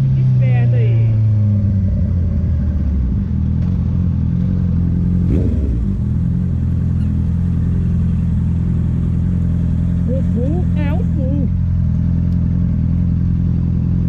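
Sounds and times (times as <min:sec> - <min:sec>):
motorcycle engine idling: 0:00.4 - 0:14.0.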